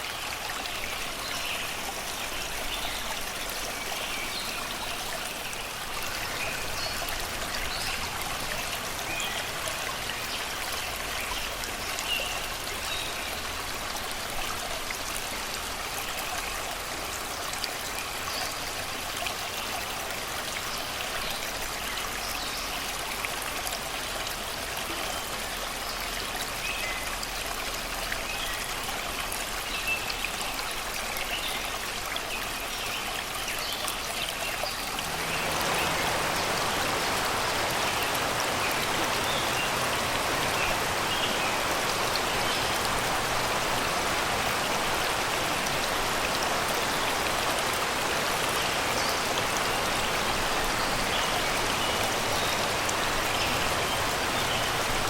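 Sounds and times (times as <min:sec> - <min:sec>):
river water babbling over rocks: 0:00.0 - 0:55.0.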